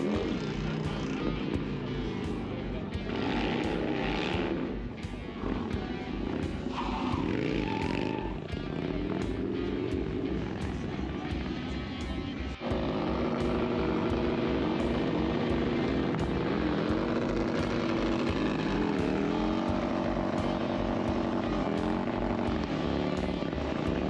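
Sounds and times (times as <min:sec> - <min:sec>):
motorcycle engine at high revs: 0:00.0 - 0:24.0.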